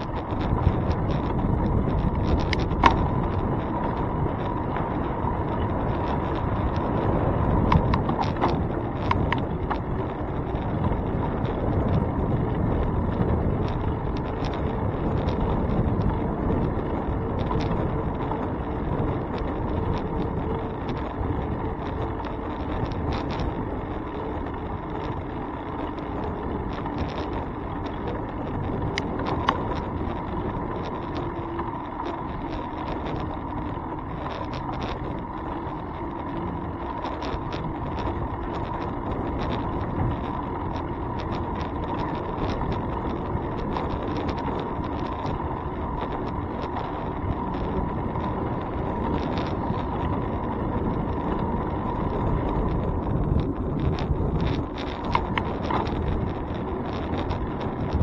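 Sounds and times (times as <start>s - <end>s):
bicycle rattles and clicks: 0.0s - 58.0s
faint steady whine: 0.0s - 58.0s
tyres rumbling on road: 0.0s - 58.0s
wind on microphone: 0.0s - 58.0s.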